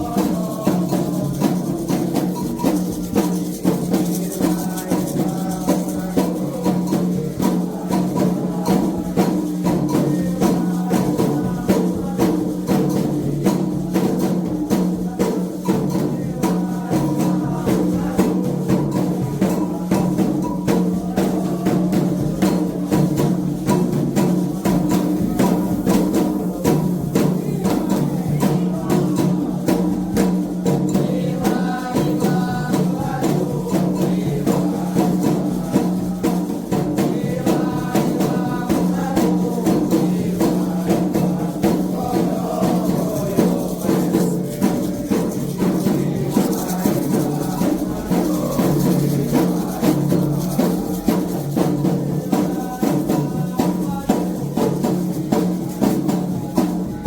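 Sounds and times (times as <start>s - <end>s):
drums and percussion playing: 0.0s - 57.0s
voices singing: 0.0s - 57.0s.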